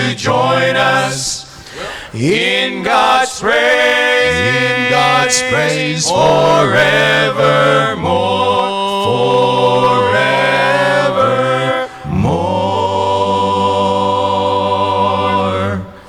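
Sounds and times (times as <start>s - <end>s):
male vocal group singing a hymn: 0.0s - 16.0s.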